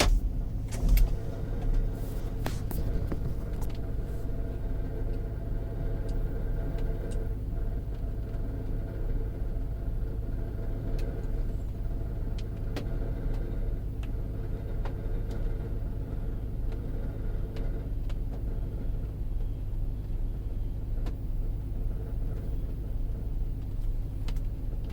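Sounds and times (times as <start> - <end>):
engine grinding rumble: 0.0 - 24.9.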